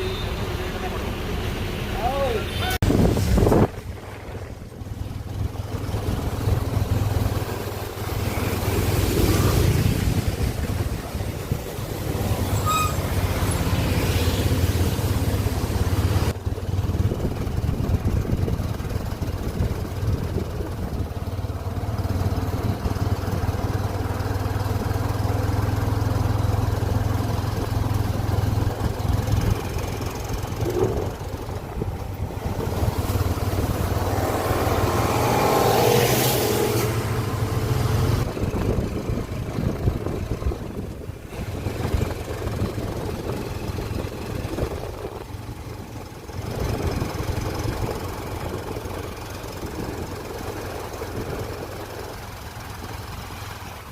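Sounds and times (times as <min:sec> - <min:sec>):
road and wind noise: 0:00.0 - 0:53.9
vehicle engine drone: 0:00.0 - 0:53.9.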